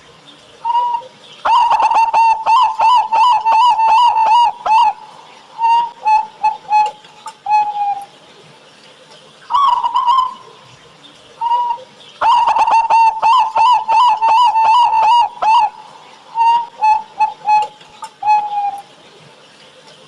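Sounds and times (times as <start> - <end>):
dove cooing: 0.1 - 8.2, 9.5 - 19.1.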